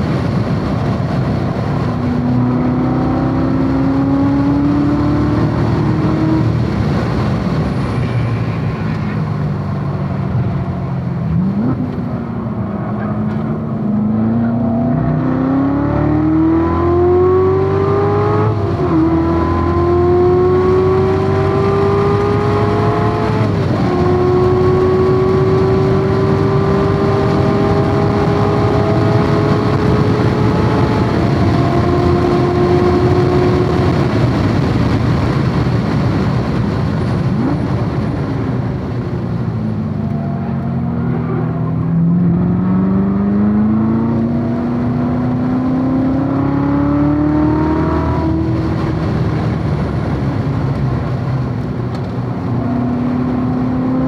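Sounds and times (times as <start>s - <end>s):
car engine at full throttle: 0.0s - 54.0s
wind and tyre noise: 0.0s - 54.0s.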